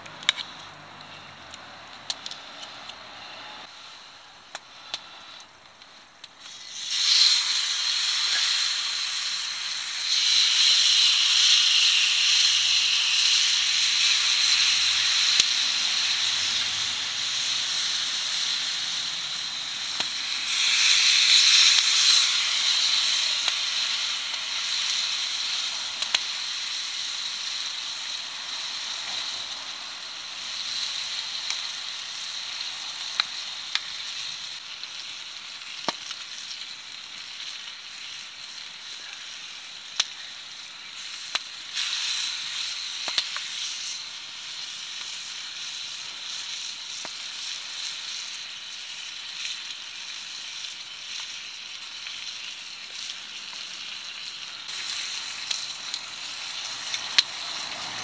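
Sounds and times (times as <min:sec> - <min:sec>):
beef sizzling in frying pan: 0:01.8 - 0:58.0.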